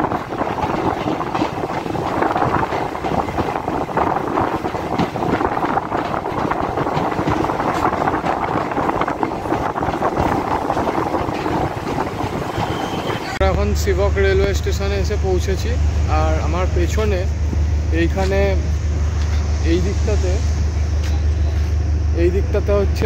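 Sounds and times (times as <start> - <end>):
train clicks: 0.0 - 15.8, 16.4 - 21.6
train wheels on rails: 0.0 - 23.0.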